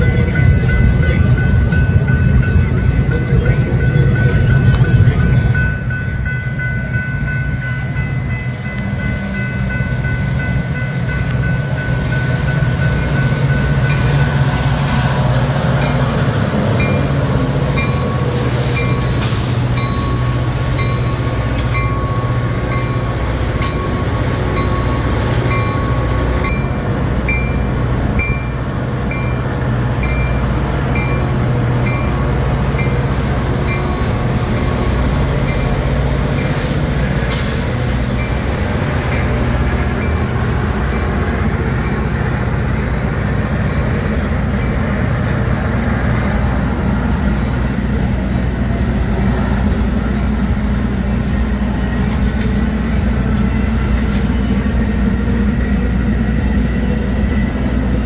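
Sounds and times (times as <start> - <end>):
train passing rumble: 0.0 - 58.0.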